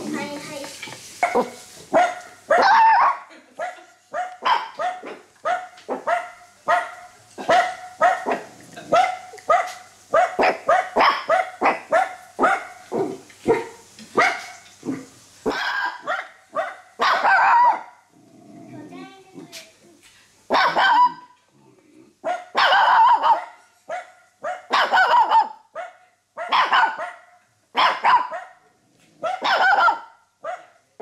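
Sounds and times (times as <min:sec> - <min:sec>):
dog barking: 0:01.2 - 0:14.6, 0:15.4 - 0:18.0, 0:20.5 - 0:21.3, 0:22.2 - 0:30.8.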